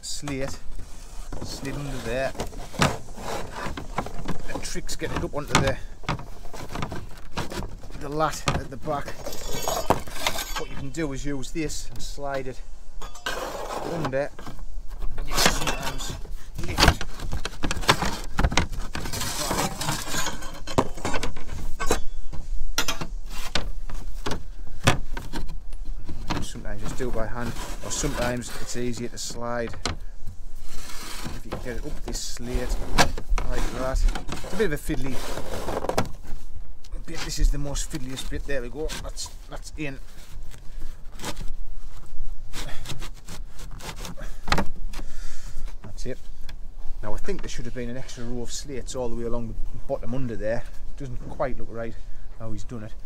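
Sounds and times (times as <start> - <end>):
roof slate scraping and knocking: 0.1 - 36.4, 37.0 - 46.4.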